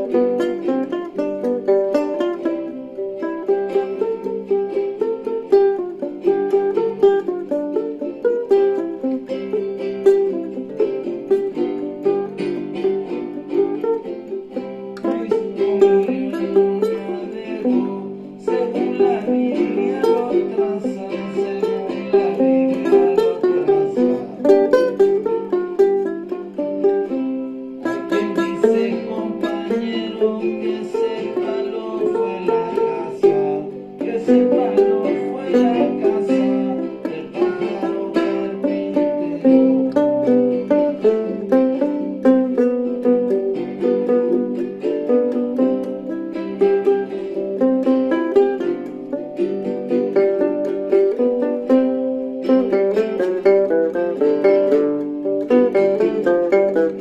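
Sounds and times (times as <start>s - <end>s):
plucked string instruments: 0.0s - 57.0s.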